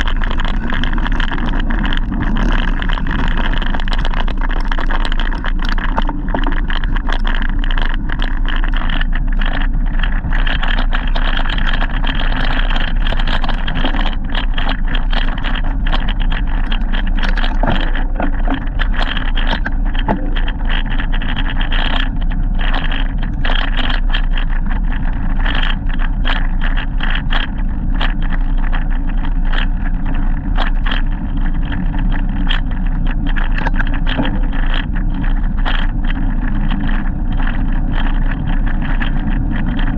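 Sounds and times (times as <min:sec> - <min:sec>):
bicycle wind and road noise: 0:00.0 - 0:39.9
small rattles and knocks: 0:00.0 - 0:39.9.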